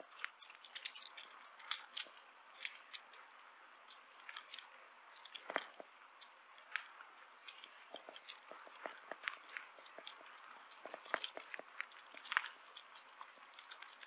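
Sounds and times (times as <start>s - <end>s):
bicycle rolling on gritty path: 0.0s - 14.0s.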